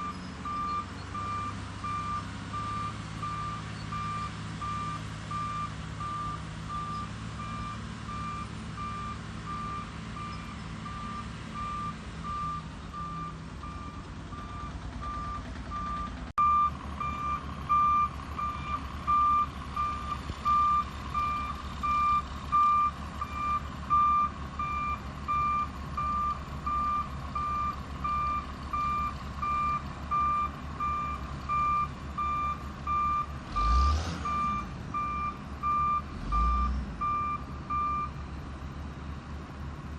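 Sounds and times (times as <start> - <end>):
reversing alarm beeping: 0.0 - 38.1
low engine rumble: 0.0 - 39.9.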